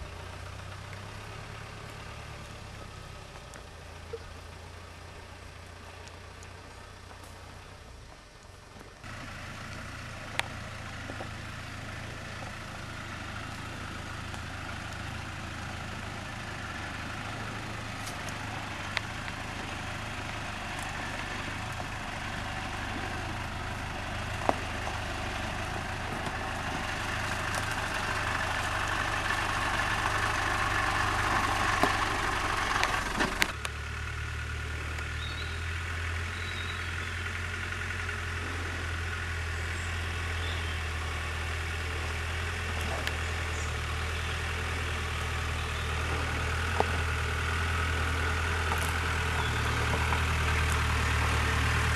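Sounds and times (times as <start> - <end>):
diesel engine running at low revs: 0.0 - 51.9
steady low engine hum: 0.0 - 51.9.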